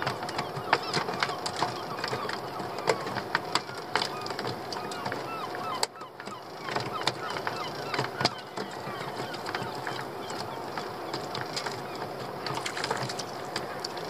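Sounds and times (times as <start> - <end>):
seabirds calling: 0.0 - 14.0.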